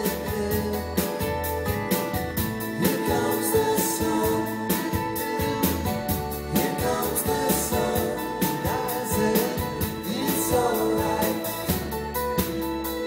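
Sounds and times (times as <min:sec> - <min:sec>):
people singing: 0:00.0 - 0:01.7, 0:02.4 - 0:12.7.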